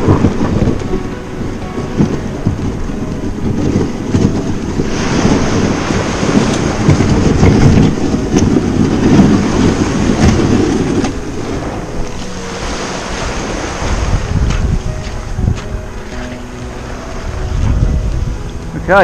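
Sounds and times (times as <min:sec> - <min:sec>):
kayak scraping over shingle: 0:00.0 - 0:19.0.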